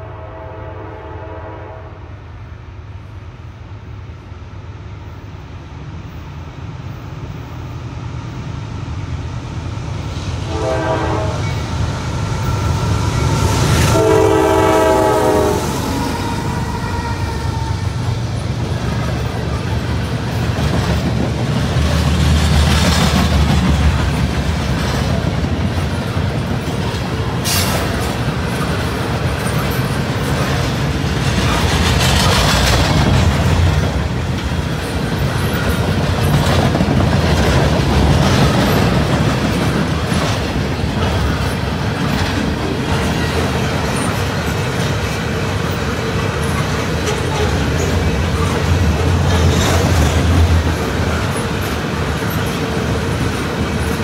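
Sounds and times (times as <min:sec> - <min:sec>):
freight cars rumbling on rails: 0:05.0 - 0:54.0.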